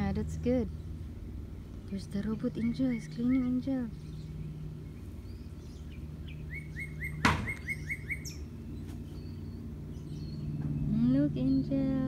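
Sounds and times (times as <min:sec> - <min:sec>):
steady low hum: 0:00.0 - 0:12.0
small bird chirping: 0:00.6 - 0:12.0.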